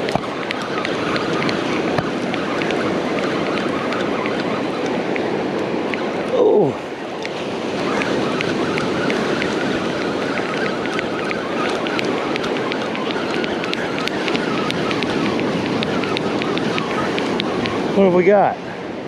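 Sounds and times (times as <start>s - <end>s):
ocean surf washing: 0.0s - 19.0s
wind on microphone: 0.0s - 19.0s.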